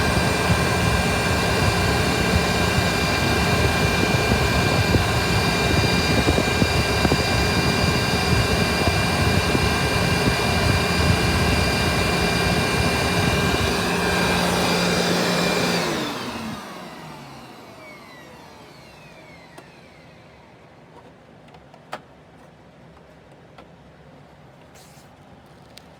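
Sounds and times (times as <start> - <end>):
vacuum cleaner running: 0.0 - 21.1.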